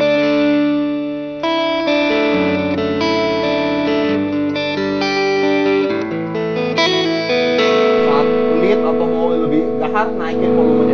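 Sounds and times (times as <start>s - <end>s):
electric guitar chords ringing: 0.0s - 10.9s.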